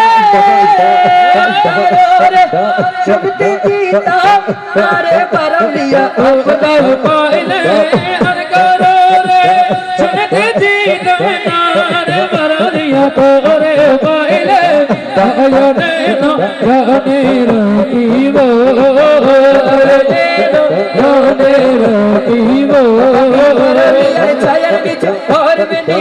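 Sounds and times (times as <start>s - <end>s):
men singing devotional song: 0.0s - 26.0s.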